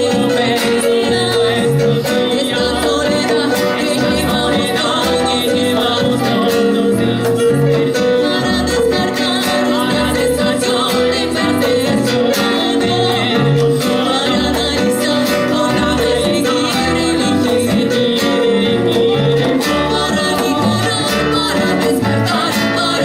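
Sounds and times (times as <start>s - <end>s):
bass: 0.0s - 23.0s
guitar: 0.0s - 23.0s
person singing: 0.0s - 23.0s.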